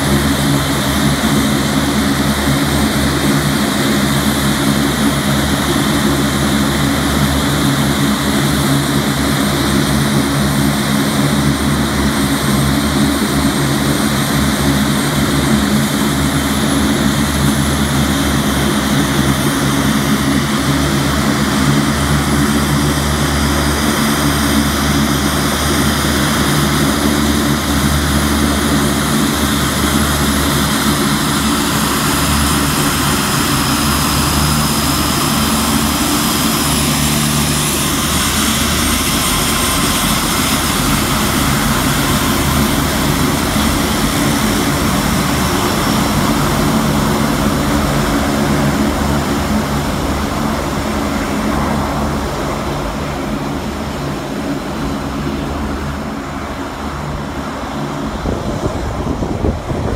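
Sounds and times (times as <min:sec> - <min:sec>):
high turbine whine: 0:00.0 - 0:59.9
propeller drone: 0:00.0 - 0:59.9.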